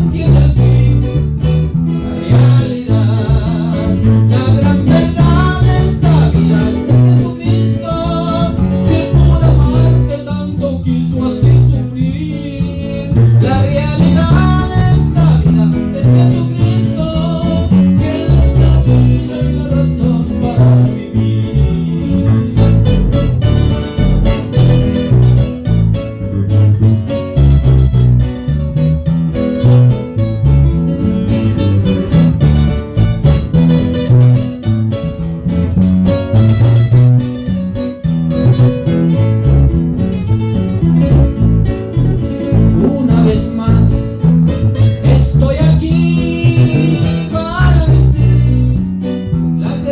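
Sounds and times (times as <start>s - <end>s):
plucked and strummed guitars: 0.0s - 49.9s
walking bass line: 0.0s - 49.9s.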